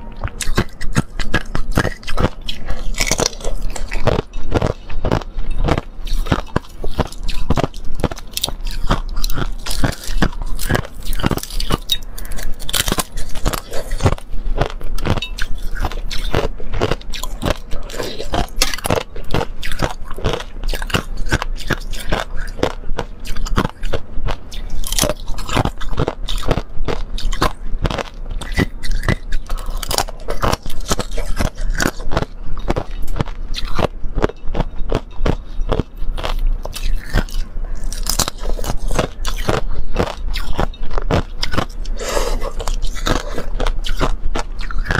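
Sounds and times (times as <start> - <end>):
ice crunching while chewed: 0.0 - 44.9.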